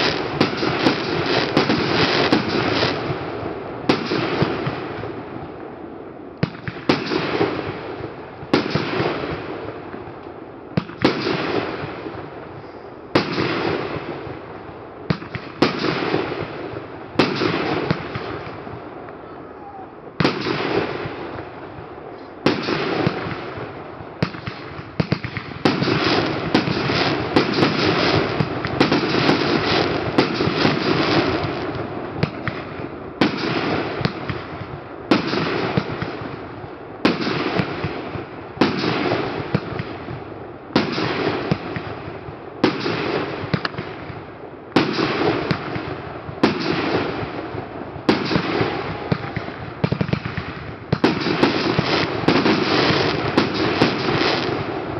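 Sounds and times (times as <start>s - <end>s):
fireworks crackling: 0.0s - 54.9s
fireworks shots: 0.0s - 54.9s.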